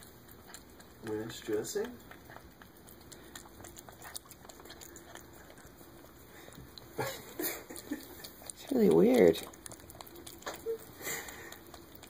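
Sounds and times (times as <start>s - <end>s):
cat lapping from a bowl: 0.0s - 12.0s.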